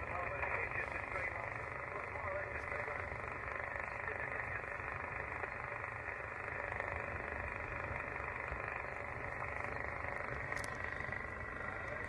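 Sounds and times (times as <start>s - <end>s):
low wind rumble: 0.0s - 12.0s
radio speaker hiss: 0.0s - 12.0s.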